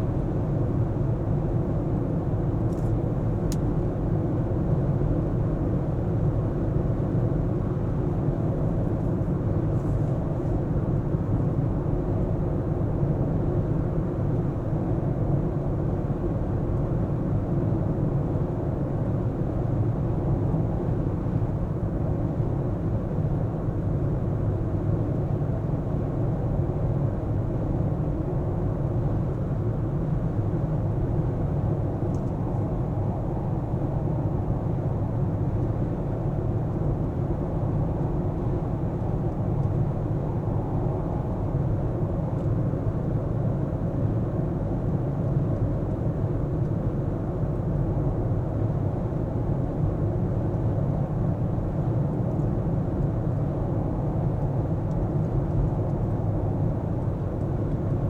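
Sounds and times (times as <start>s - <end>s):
car engine and tyre rumble: 0.1s - 58.0s.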